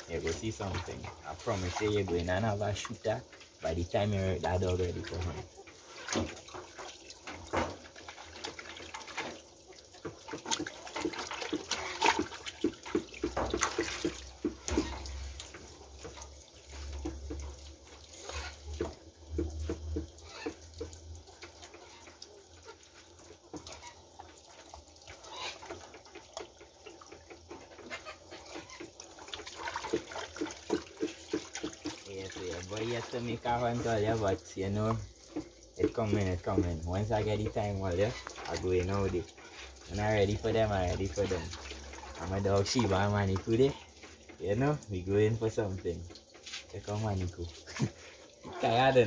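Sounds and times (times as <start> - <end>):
splashes and knocks while scrubbing: 0.0 - 49.0
tap water running into metal sink: 0.0 - 49.0.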